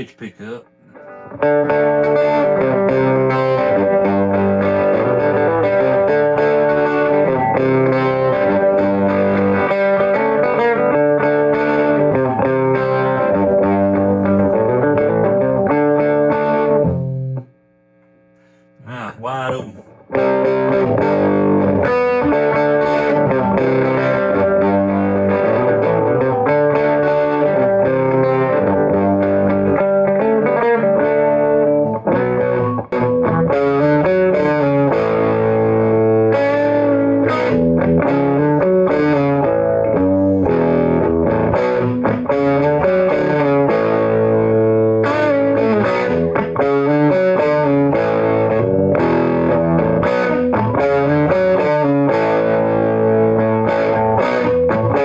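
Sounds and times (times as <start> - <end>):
distorted electric guitar chords: 0.0 - 55.0.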